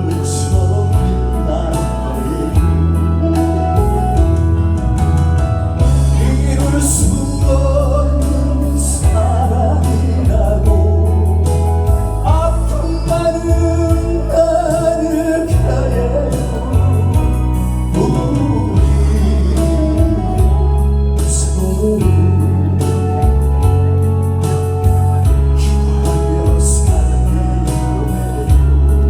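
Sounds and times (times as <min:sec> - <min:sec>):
sliding melody line: 0:00.0 - 0:29.0
song with bass beat: 0:00.0 - 0:29.0.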